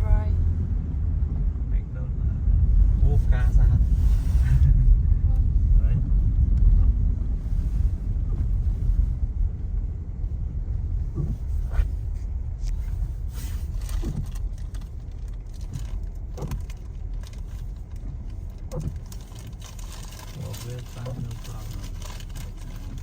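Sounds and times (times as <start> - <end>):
car road rumble: 0.0 - 23.0.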